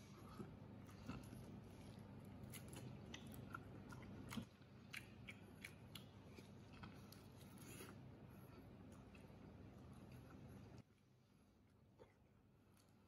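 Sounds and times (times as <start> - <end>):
chewing with mouth clicks: 0.0 - 10.9.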